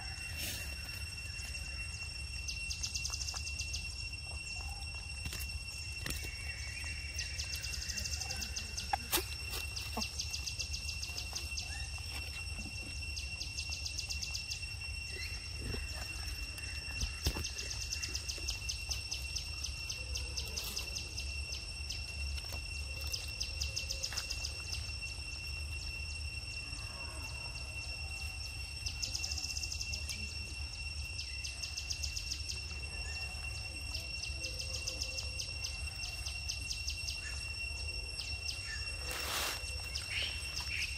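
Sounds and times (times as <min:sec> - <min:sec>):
insect chorus drones and trills: 0:00.0 - 0:40.9.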